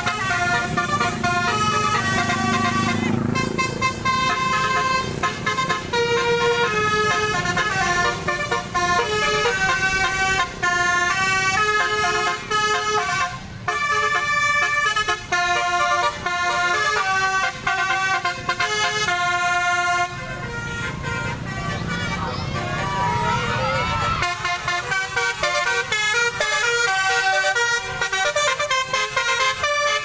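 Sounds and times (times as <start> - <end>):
musical bus horn melody: 0.0 - 30.0.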